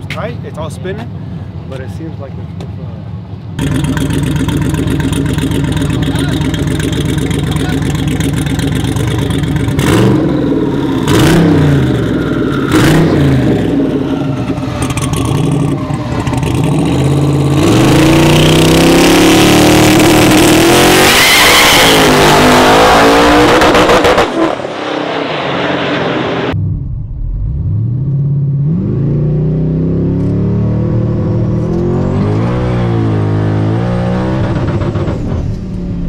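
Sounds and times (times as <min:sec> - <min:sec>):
truck engine revving: 0:03.6 - 0:35.5.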